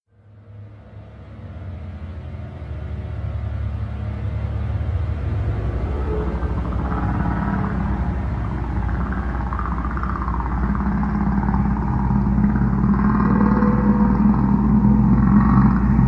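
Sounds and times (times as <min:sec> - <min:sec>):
low rumbling drone: 0:00.1 - 0:16.0.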